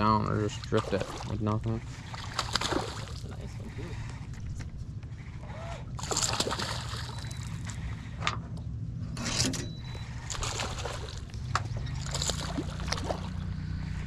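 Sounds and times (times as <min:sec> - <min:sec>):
steady low hum: 0:00.0 - 0:14.0
water lapping against metal boat: 0:00.0 - 0:14.0.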